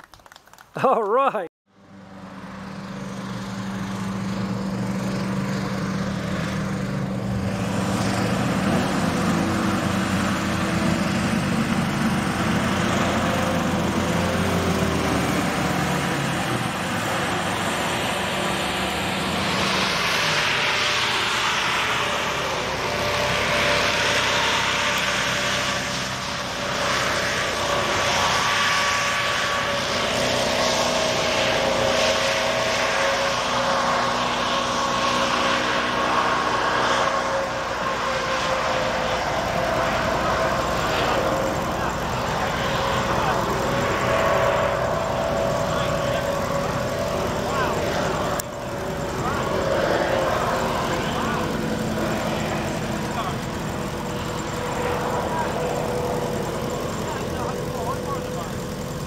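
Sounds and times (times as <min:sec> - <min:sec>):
hovercraft engines and fans: 0:00.0 - 0:59.0.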